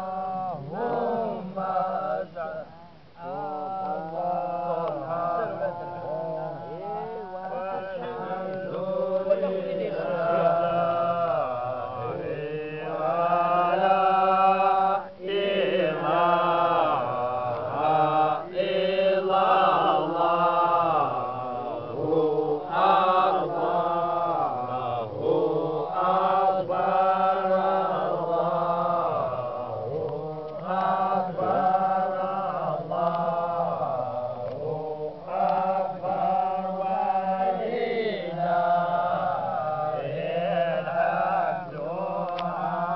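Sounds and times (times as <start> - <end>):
men chanting in unison: 0.0 - 42.9.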